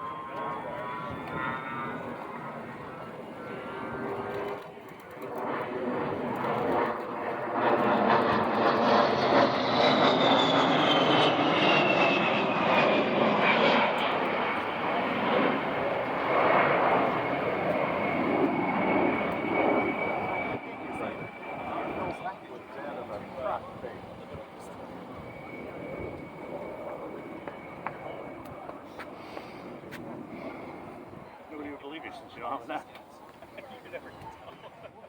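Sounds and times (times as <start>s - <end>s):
jet flying past: 0.0s - 34.7s.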